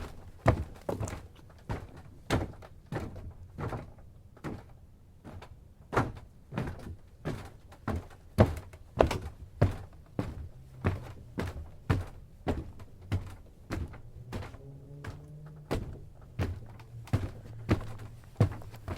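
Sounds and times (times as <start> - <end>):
footsteps on wooden dock: 0.0 - 18.9.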